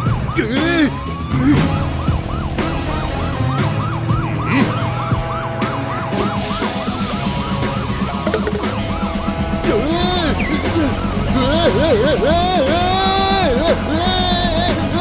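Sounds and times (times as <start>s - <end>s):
background music: 0.0s - 15.0s
police siren yelping: 0.0s - 15.0s.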